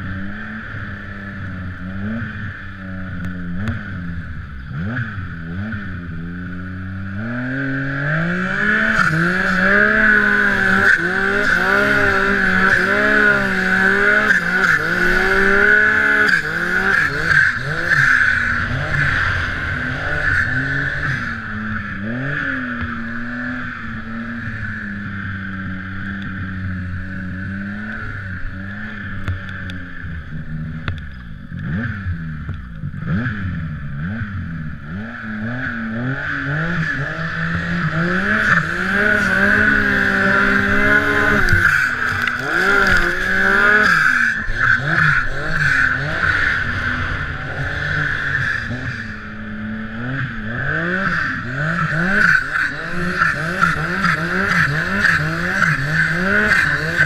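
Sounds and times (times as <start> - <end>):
snowmobile engine revving: 0.0 - 30.8, 32.9 - 57.0.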